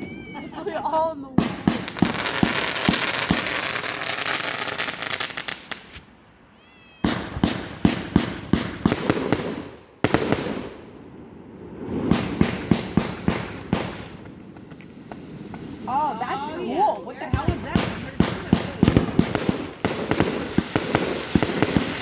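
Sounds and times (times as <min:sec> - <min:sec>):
fireworks crackling: 0:00.0 - 0:22.0
fireworks sharp pops: 0:01.4 - 0:06.2, 0:07.0 - 0:10.8, 0:11.8 - 0:15.9, 0:16.9 - 0:22.0.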